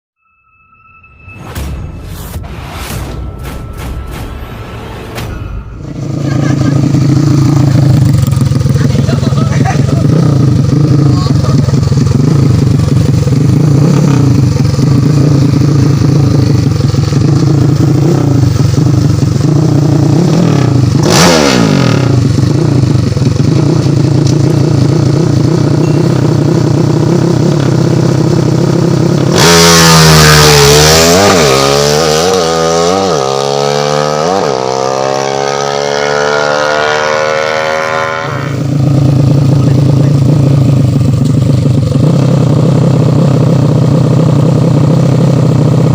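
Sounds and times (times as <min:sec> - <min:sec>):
motorcycle engine idling and revving: 0:02.9 - 0:45.9.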